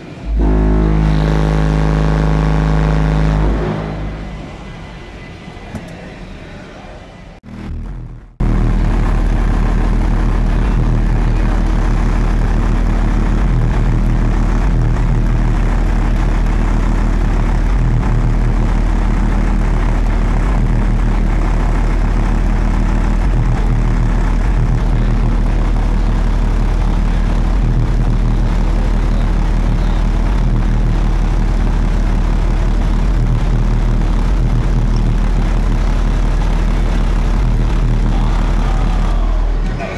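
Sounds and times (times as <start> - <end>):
loud subwoofer bass drone: 0.0 - 4.8, 7.4 - 39.9.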